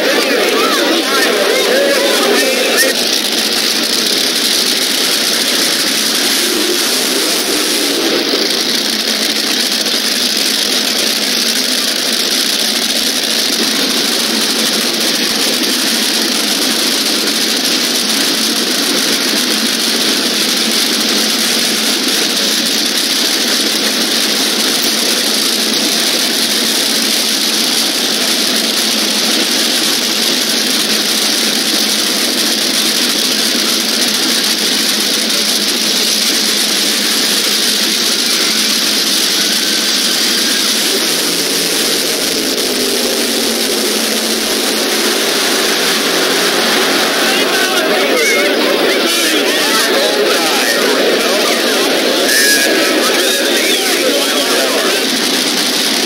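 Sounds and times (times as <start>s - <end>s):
race car engines running: 0.0s - 56.0s.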